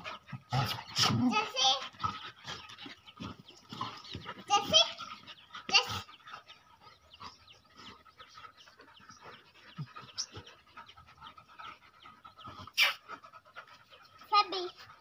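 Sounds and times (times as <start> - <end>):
dogs panting and sniffing: 0.0 - 15.0.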